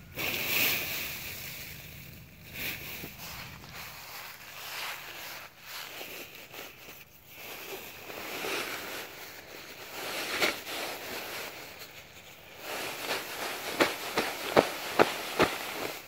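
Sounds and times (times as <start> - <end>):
nylon bag rustling and crinkling: 2.5 - 16.0.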